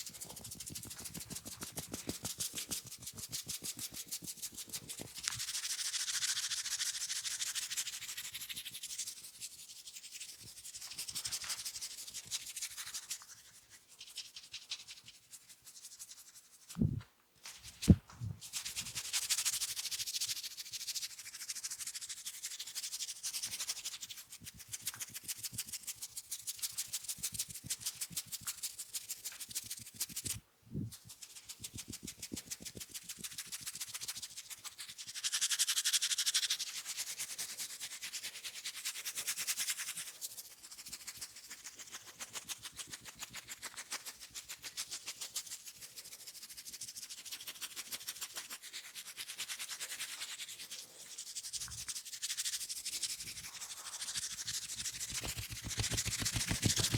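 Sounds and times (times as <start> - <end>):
hands scratching scalp and hair: 0.0 - 56.9.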